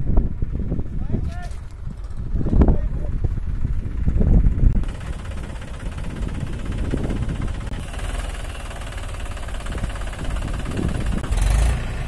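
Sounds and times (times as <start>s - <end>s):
diesel tractor engine knocking: 1.6s - 12.0s.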